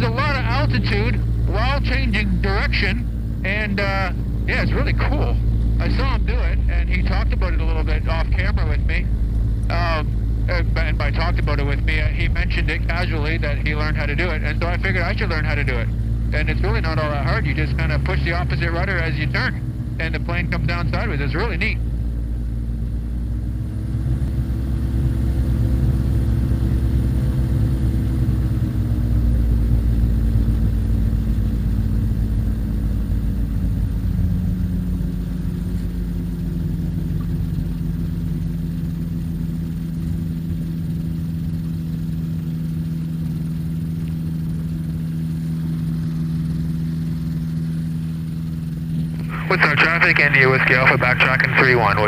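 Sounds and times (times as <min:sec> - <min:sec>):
light aircraft engine: 0:00.0 - 0:52.0.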